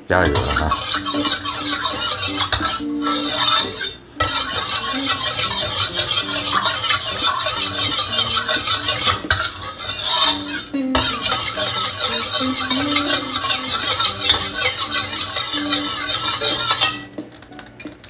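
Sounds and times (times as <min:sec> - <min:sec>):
soft background music: 0:00.1 - 0:09.4, 0:10.1 - 0:18.0
spatula scraping in a wok: 0:00.2 - 0:17.1
oil sizzling: 0:00.2 - 0:17.4.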